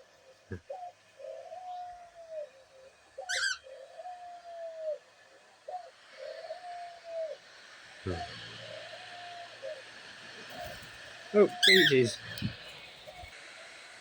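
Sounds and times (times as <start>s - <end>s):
dove cooing: 0.5s - 5.1s, 5.7s - 13.3s.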